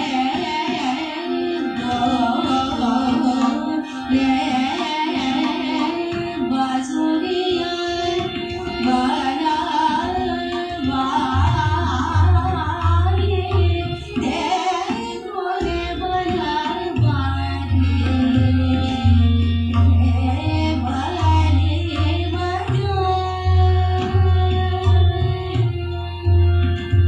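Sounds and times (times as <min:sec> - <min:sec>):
woman singing: 0:00.0 - 0:25.8
harmonium: 0:00.0 - 0:27.0
tabla drumming: 0:00.0 - 0:27.0.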